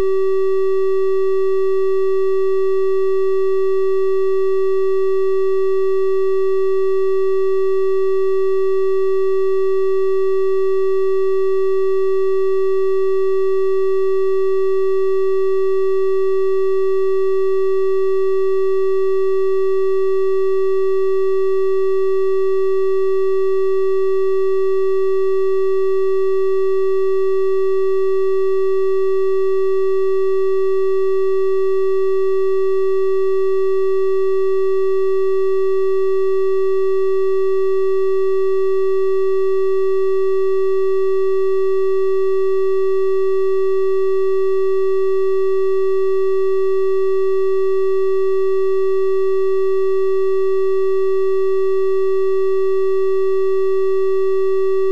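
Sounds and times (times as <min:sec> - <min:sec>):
steady triangle-wave tone: 0:00.0 - 0:54.9.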